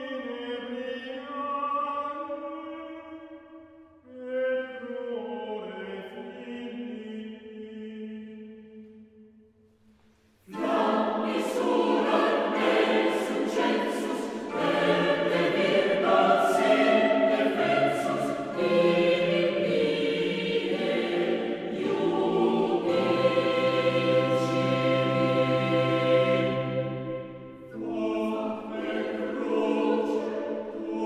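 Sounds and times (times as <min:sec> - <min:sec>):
choir singing a hymn: 0:04.1 - 0:08.7, 0:10.4 - 0:31.0.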